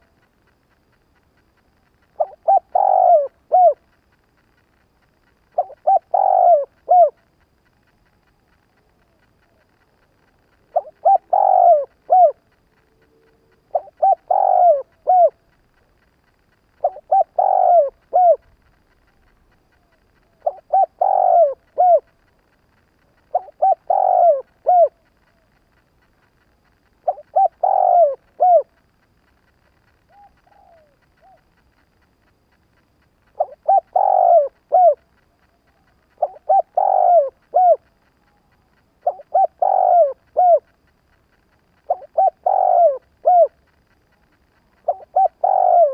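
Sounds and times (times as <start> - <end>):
dove cooing: 2.0 - 4.0, 5.3 - 7.4, 8.0 - 25.7, 26.4 - 29.0, 29.6 - 31.9, 33.2 - 45.9.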